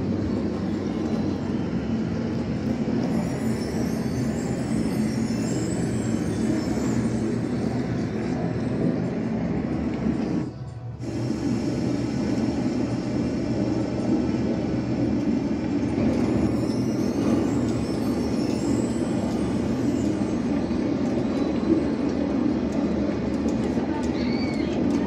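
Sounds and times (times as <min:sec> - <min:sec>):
faint high whistling glides: 0:00.0 - 0:13.4, 0:15.8 - 0:24.9.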